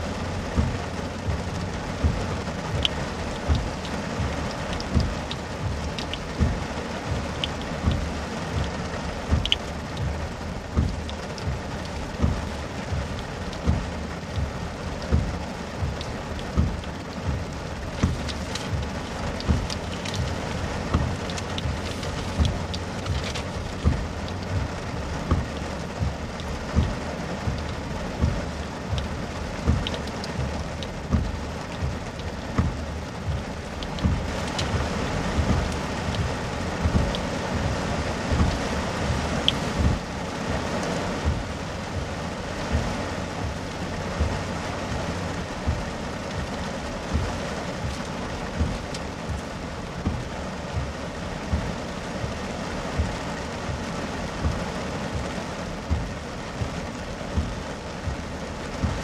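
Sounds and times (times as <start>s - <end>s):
heavy rain on car roof: 0.0s - 59.0s.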